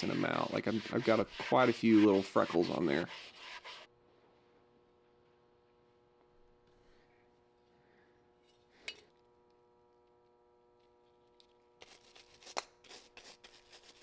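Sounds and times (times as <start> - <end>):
faint steady hum: 0.0 - 12.2.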